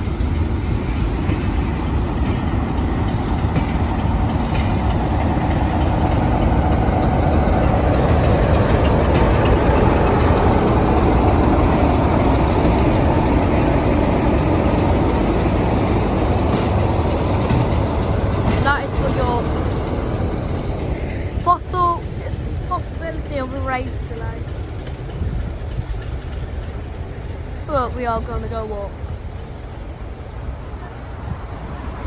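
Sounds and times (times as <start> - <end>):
diesel locomotive engine: 0.0 - 32.0
wheel and rail noise: 0.0 - 32.0.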